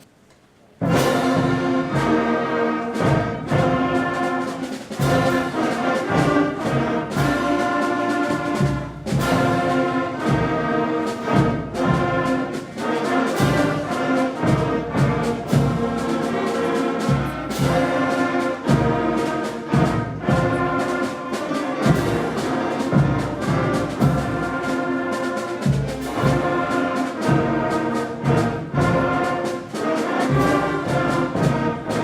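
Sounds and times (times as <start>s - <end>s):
concert band playing chords: 0.8s - 32.0s
drum strikes: 0.8s - 32.0s.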